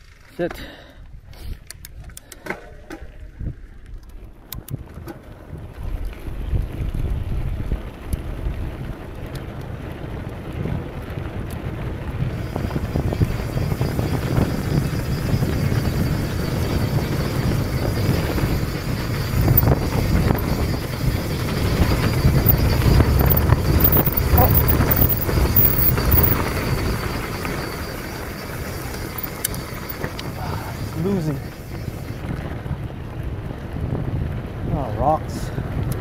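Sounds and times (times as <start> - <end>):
bike tyres rolling on dirt: 3.1 - 36.0
wind buffeting microphone: 3.1 - 36.0.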